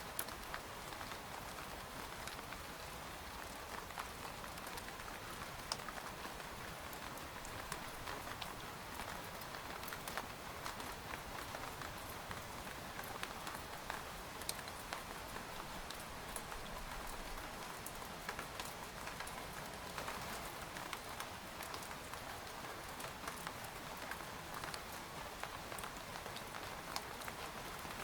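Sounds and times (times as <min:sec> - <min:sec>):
rain pattering on a tent: 0:00.0 - 0:28.0.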